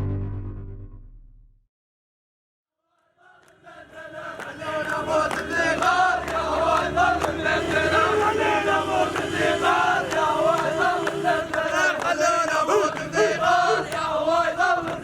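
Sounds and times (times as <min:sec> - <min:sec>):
crowd chanting and singing: 0:02.9 - 0:15.0.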